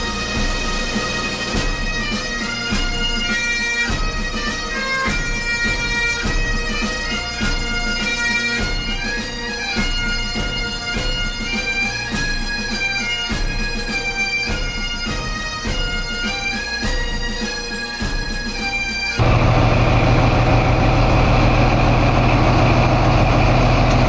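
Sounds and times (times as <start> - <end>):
bagpipe tune over drones: 0.0 - 21.0.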